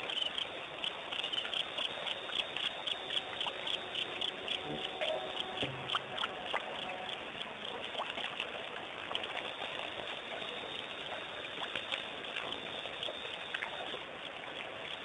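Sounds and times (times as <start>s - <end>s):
constant hiss: 0.0s - 15.0s
faint drips and clicks: 0.0s - 15.0s
water trickling and splashing: 0.0s - 15.0s.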